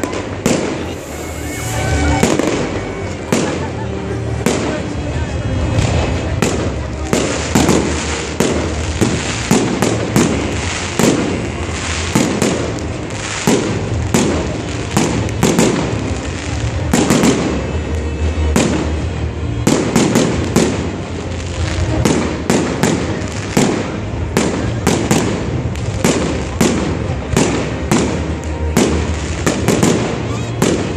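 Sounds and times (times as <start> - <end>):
fireworks banging: 0.0 - 30.9
fireworks crackle: 0.0 - 30.9.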